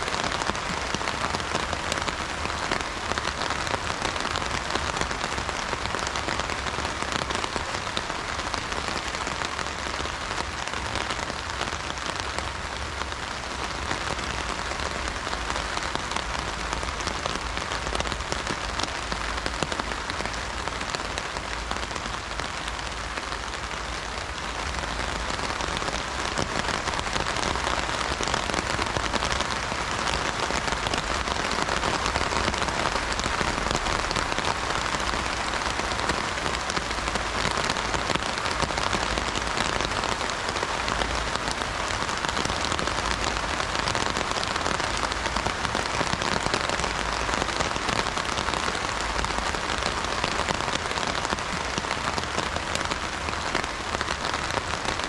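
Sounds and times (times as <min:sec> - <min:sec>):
heavy rain on an umbrella: 0:00.0 - 0:55.0.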